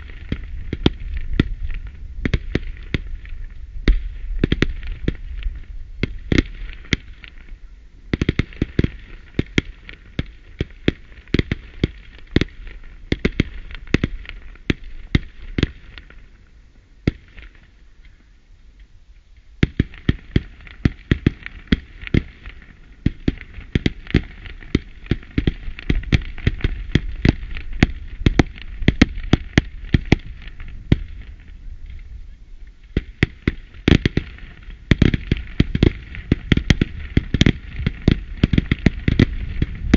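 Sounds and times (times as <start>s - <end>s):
fireworks bangs: 0.0s - 7.5s, 8.1s - 16.4s, 17.0s - 17.8s, 19.6s - 39.9s.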